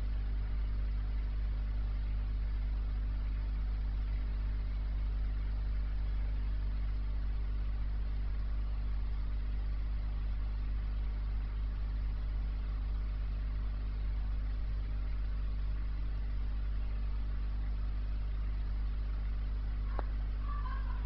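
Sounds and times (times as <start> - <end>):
aquarium motor hum: 0.0 - 21.0.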